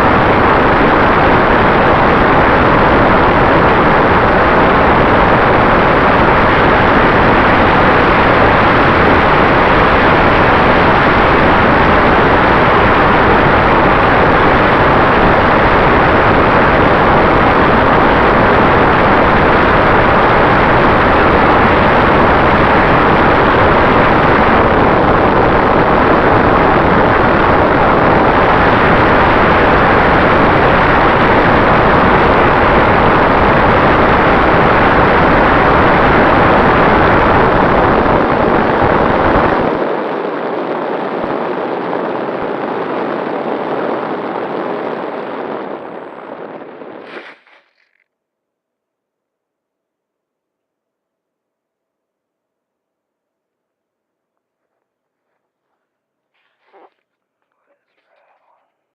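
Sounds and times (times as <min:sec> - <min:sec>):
wind noise: 0:00.0 - 0:48.0
faint constant whine: 0:00.0 - 0:48.8, 0:49.5 - 0:58.9.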